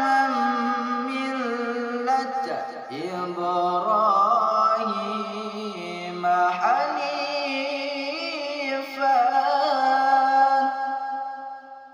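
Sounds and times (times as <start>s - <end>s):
man chanting melodically: 0.0s - 10.8s.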